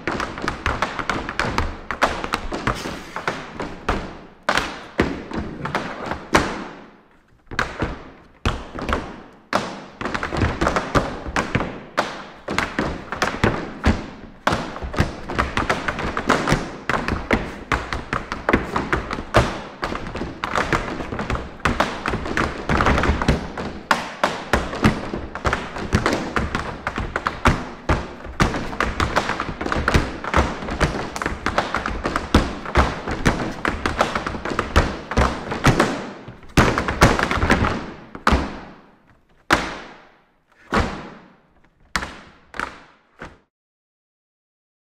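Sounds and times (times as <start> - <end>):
tap shoes striking the floor: 0.0 - 43.5.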